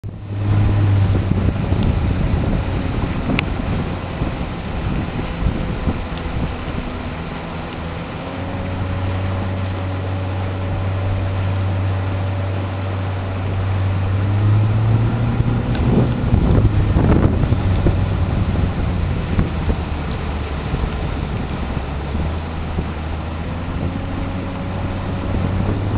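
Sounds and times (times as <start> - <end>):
motorboat engine drone: 0.0 - 25.9
water splash: 0.0 - 25.9
wind buffeting microphone: 0.0 - 25.9.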